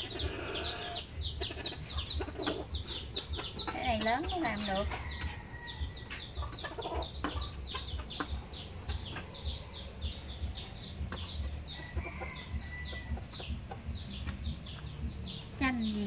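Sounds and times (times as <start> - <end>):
chickens cheeping: 0.0 - 16.0.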